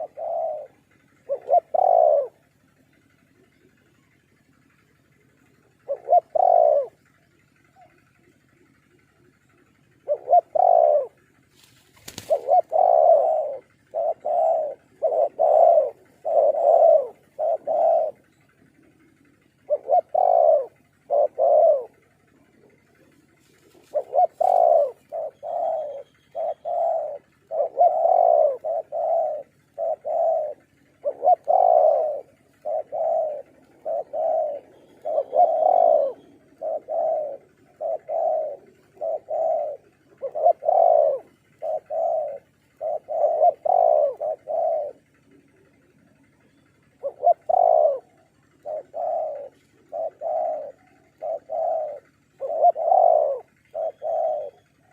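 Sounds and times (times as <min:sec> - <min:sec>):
dove cooing: 0:00.0 - 0:54.9.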